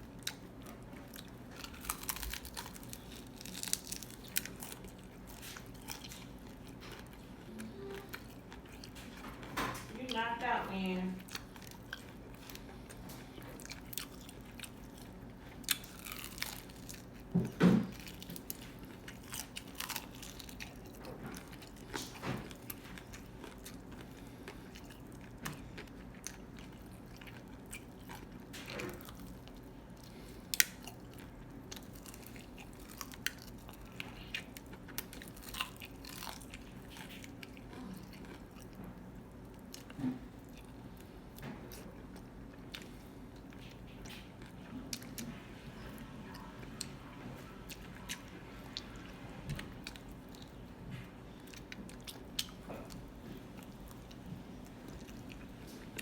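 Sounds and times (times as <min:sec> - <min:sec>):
chewing and crunching food: 0:00.0 - 0:56.0
faint steady hum: 0:00.0 - 0:56.0.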